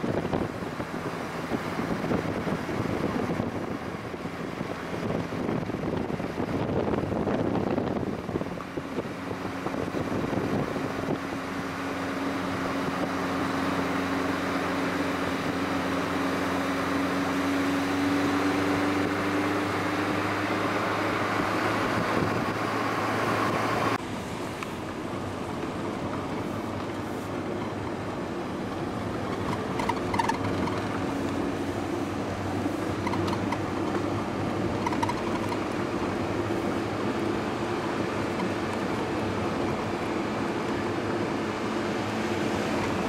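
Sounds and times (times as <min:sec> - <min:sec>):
car engine hum: 0:00.0 - 0:43.0
road noise: 0:00.0 - 0:43.0.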